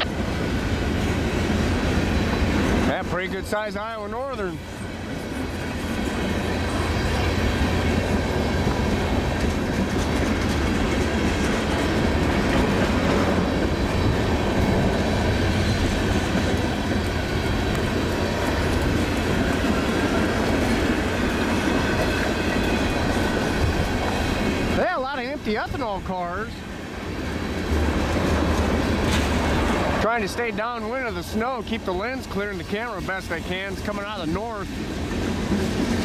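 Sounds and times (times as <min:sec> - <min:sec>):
freight train wheels clattering: 0:00.1 - 0:36.0.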